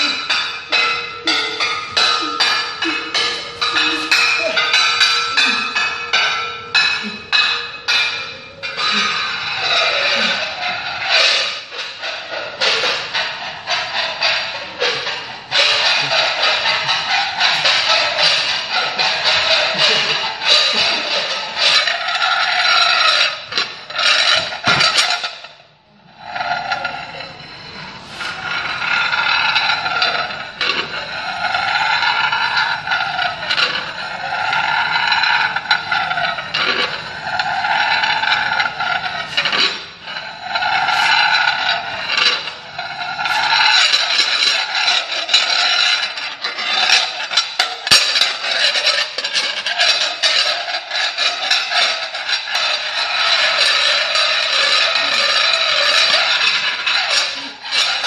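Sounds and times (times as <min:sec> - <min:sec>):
metal trays scraping: 0:00.0 - 0:25.5, 0:26.2 - 0:58.0.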